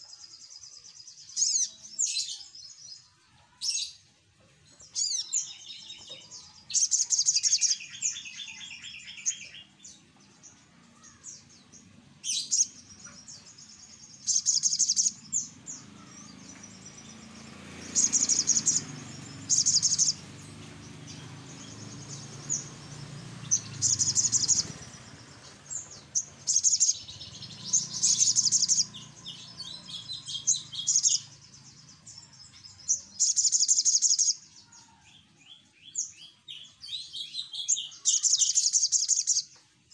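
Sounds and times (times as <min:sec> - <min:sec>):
bird chirping and trilling: 0:00.0 - 0:04.1, 0:04.7 - 0:39.6.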